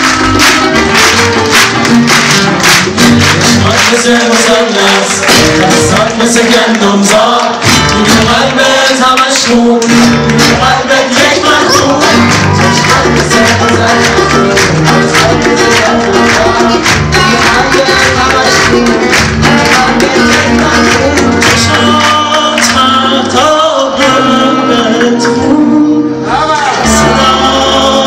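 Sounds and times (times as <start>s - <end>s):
live band playing: 0.0s - 28.0s.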